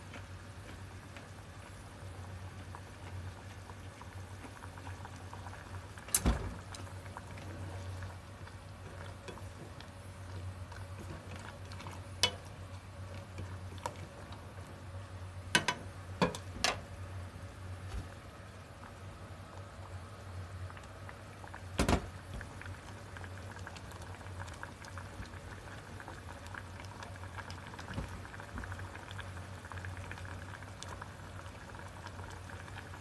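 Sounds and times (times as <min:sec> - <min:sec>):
soup bubbling in a pot: 0:00.0 - 0:33.0.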